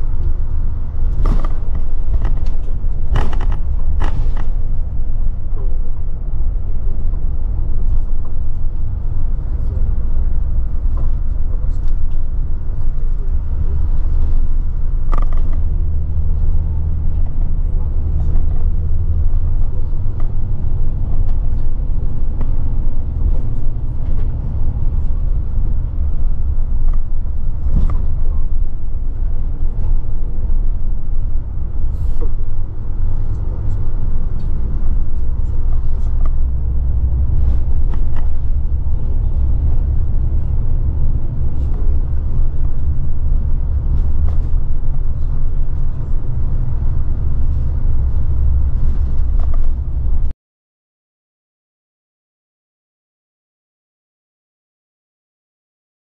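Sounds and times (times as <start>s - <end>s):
light rattles and clicks: 0.0s - 16.5s, 17.1s - 50.1s
bus engine and road drone: 0.0s - 50.4s.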